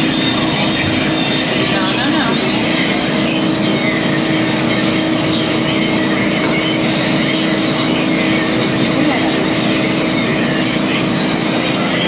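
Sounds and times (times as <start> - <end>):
machine drone with low hum: 0.0 - 12.0.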